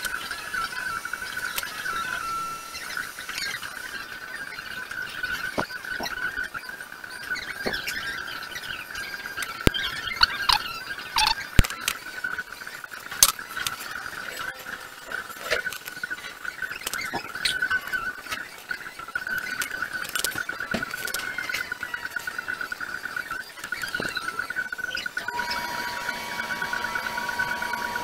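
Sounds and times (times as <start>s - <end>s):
high fluttering whine: 0.0s - 28.0s.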